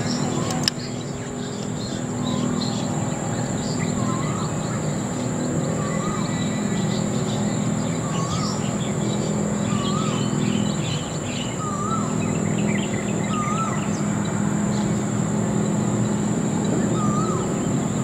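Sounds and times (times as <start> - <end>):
birds chirping: 0.0 - 18.0
high-pitched insect drone: 0.0 - 18.0
bird wavering whistle: 1.8 - 15.0, 16.7 - 18.0.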